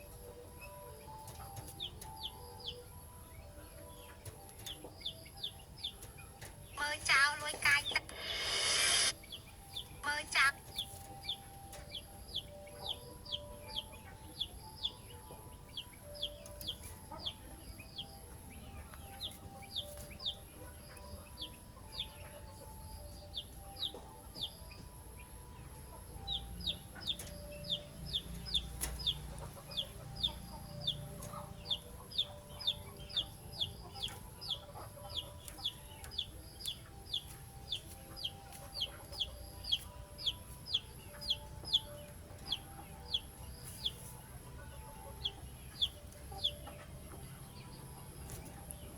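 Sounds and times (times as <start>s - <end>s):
bird chirping: 0.0s - 48.9s.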